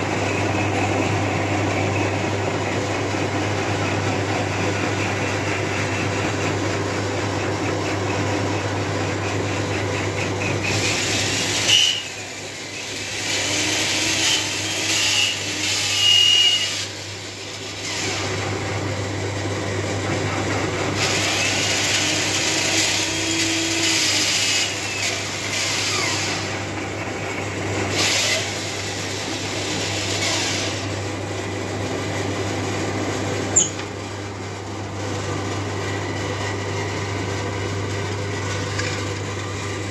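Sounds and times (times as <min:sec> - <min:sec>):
lathe tool cutting steel: 0:00.0 - 0:18.7, 0:19.3 - 0:39.9
metal lathe humming: 0:00.0 - 0:39.9.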